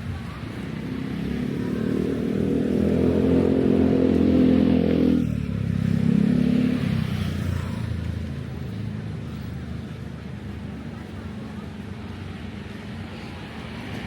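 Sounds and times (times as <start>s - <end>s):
vehicle engines passing: 0.0s - 14.0s.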